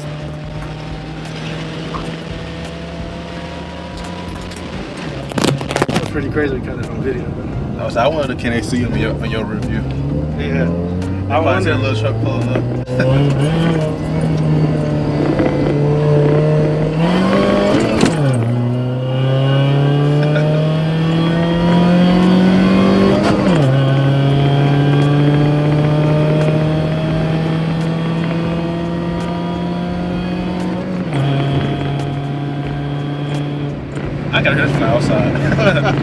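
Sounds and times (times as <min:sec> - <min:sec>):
supercharger whine: 0:00.0 - 0:06.7, 0:09.1 - 0:36.0
car engine accelerating: 0:00.0 - 0:36.0.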